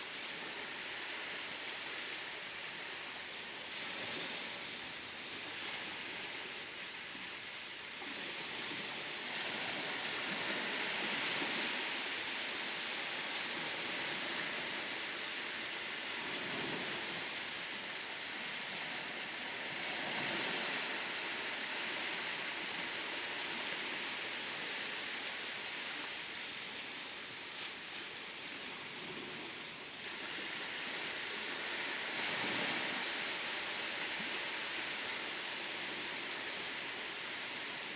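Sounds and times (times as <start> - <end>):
surf hissing: 0.0 - 37.9.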